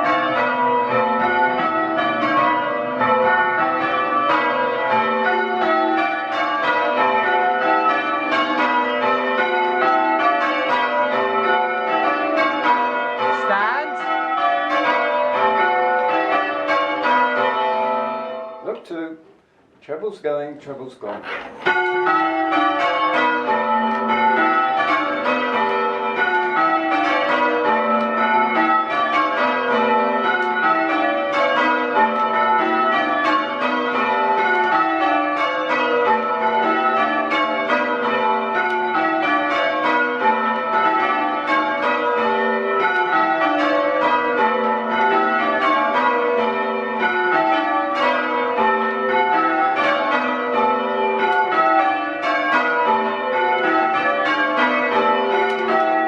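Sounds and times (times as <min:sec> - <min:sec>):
church bells change ringing: 0:00.0 - 0:19.2, 0:20.0 - 0:56.0.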